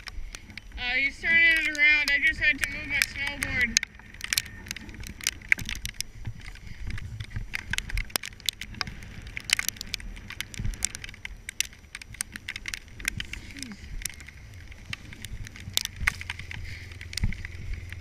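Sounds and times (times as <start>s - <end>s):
low rumble: 0.0s - 18.0s
camera handling clicks and rattles: 1.4s - 18.0s.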